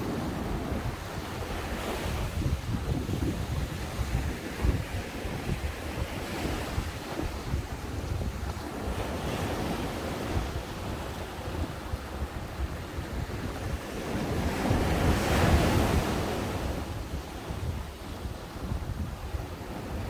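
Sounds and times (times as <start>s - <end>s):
ocean waves breaking: 0.0s - 18.6s
wind buffeting microphone: 0.0s - 20.0s.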